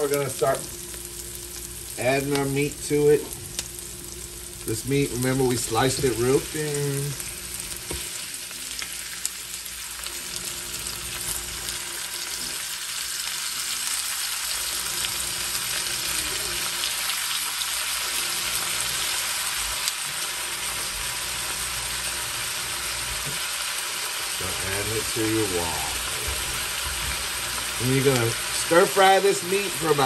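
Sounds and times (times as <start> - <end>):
meat sizzling in a wok: 0.0 - 30.0.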